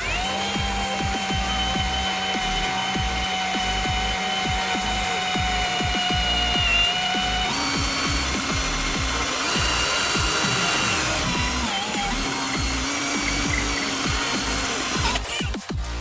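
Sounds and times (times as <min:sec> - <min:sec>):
electric drill whining: 0:00.0 - 0:16.0
electronic music with thumping beat: 0:00.0 - 0:16.0.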